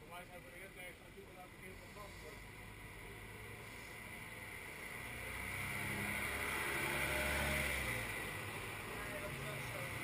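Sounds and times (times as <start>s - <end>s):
bus driving past: 1.2s - 10.0s.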